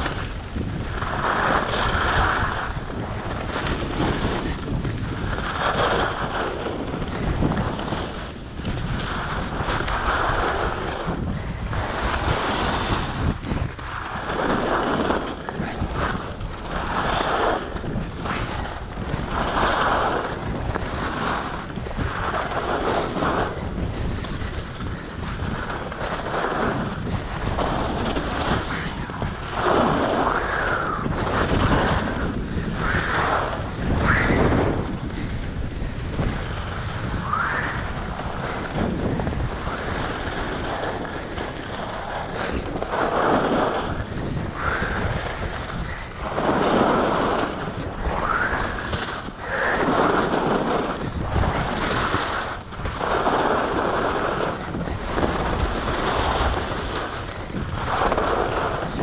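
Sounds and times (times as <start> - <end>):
ski edges scraping snow: 0.0 - 11.2, 11.8 - 59.0
wind rushing over microphone: 0.0 - 59.0.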